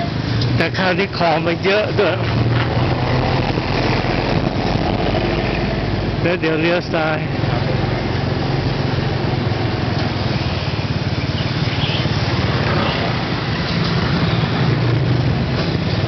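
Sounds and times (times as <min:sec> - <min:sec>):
road noise: 0:00.0 - 0:16.0
wind: 0:00.0 - 0:16.0.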